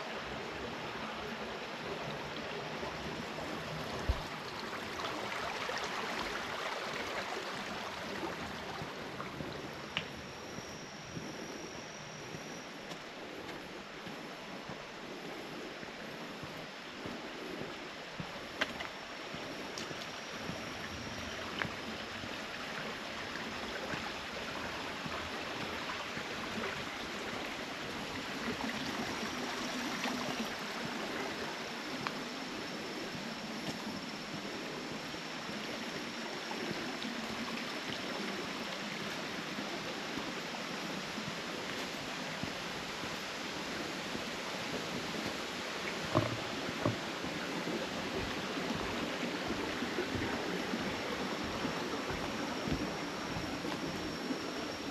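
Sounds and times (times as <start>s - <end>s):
stream babbling over rocks: 0.0s - 10.4s, 17.8s - 54.9s.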